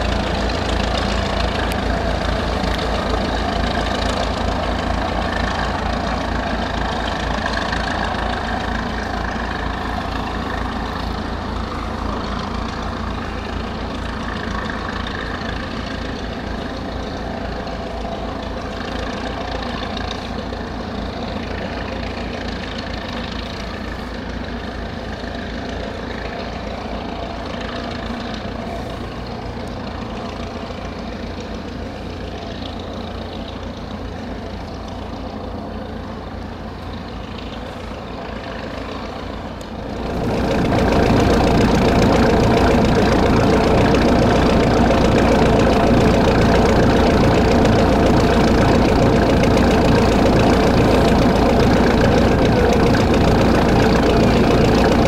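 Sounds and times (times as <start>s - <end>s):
ferry diesel engine rumble: 0.0s - 55.0s.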